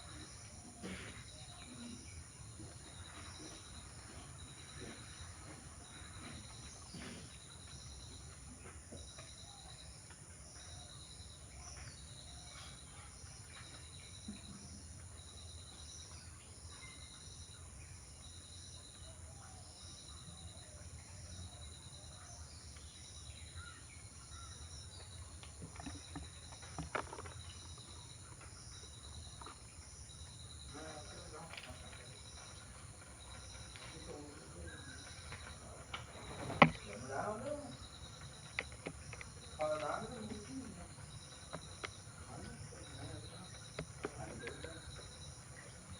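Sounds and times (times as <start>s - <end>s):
faint bird chirps: 0.0s - 45.9s
insect chirping in trills: 0.0s - 45.9s.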